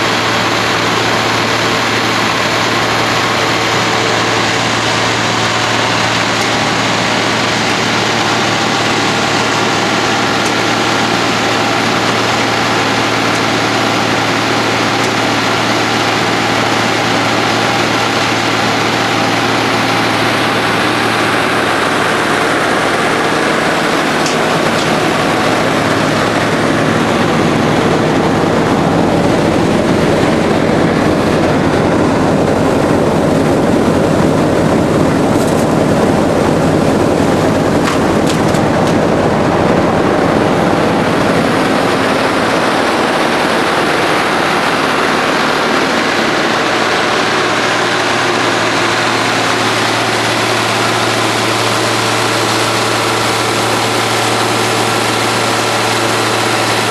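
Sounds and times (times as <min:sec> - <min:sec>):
diesel engine running: 0:00.0 - 0:56.9
steady low hum: 0:00.0 - 0:56.9.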